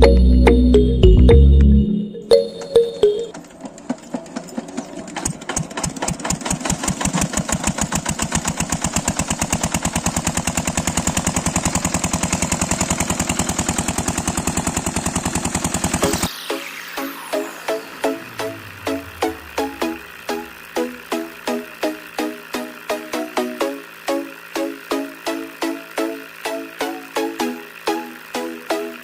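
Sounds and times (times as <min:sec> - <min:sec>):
small machine chugging: 0:02.4 - 0:29.0.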